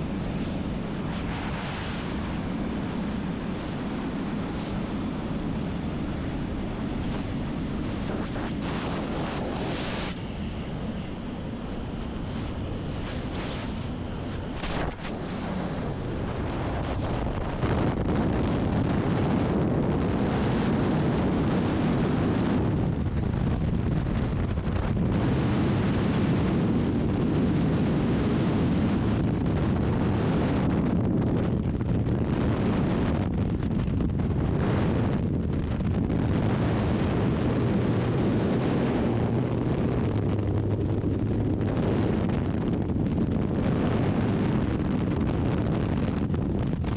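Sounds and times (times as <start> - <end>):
wind rushing over microphone: 0.0 - 46.9.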